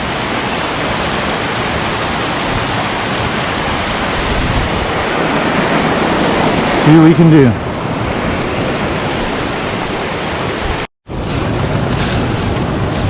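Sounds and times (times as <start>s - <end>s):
creek water rushing over rocks: 0.0s - 10.9s.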